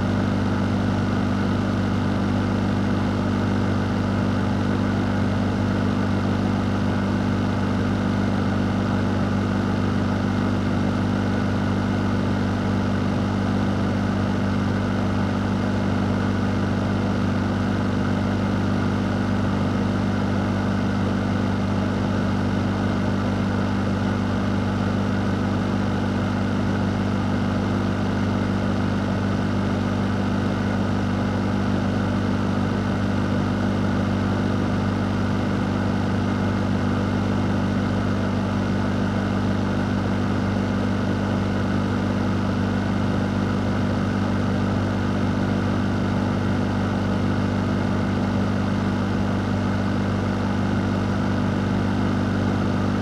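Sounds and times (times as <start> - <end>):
fan motor hum: 0.0 - 53.0.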